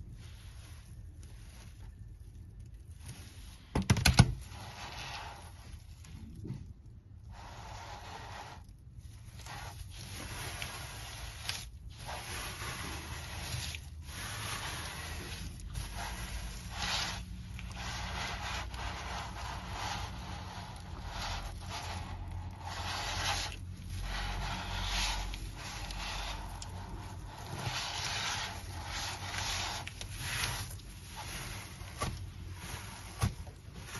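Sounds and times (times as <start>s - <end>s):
hands brushing artificial grass: 0.0s - 3.6s, 4.4s - 6.0s, 7.3s - 33.9s.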